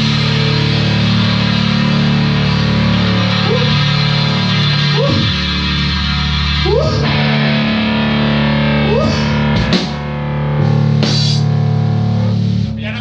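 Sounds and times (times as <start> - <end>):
distorted electric guitar chords: 0.0 - 13.0
drum kit: 0.0 - 13.0.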